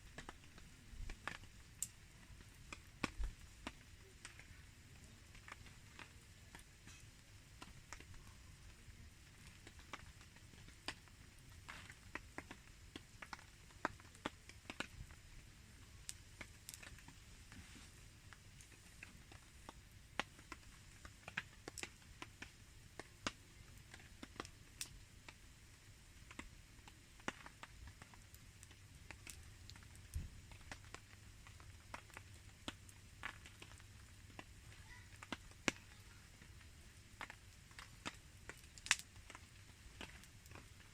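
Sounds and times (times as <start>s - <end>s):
campfire popping: 0.0s - 40.9s.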